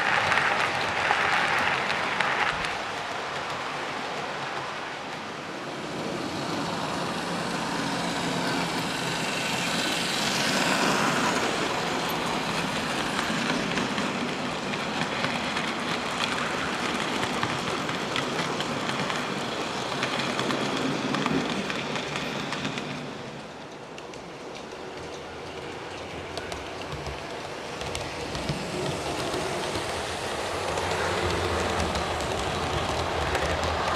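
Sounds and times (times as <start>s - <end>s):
model train motor and wheel rumble: 0.0s - 33.9s.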